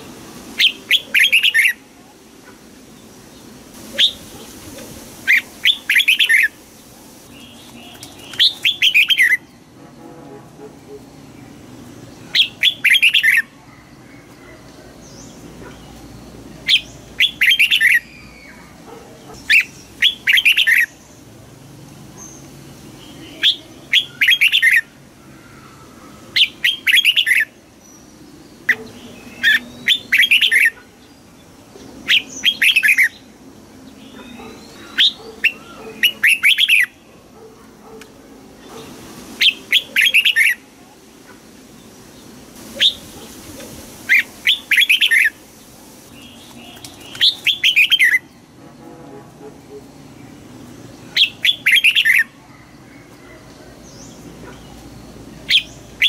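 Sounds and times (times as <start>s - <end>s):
bulbul singing warbled phrases: 0.0s - 9.5s, 11.1s - 13.6s, 14.2s - 21.4s, 22.2s - 37.2s, 38.6s - 40.8s, 41.7s - 48.4s, 50.3s - 56.0s.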